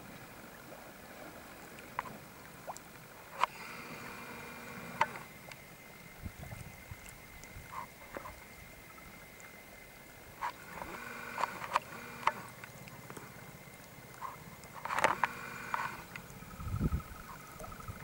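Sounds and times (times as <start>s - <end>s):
small waves lapping against rocks: 0.0s - 18.0s.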